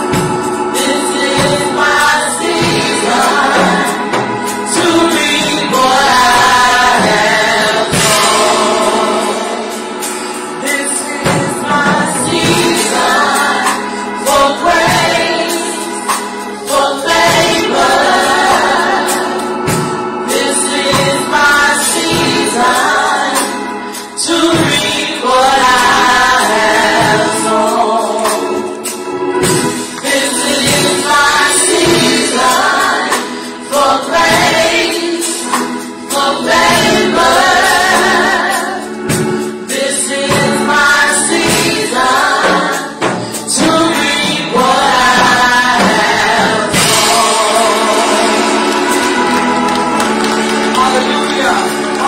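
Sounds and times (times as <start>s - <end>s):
group singing a worship song: 0.0s - 52.0s
instrumental accompaniment: 0.0s - 52.0s
percussion hits: 0.0s - 52.0s.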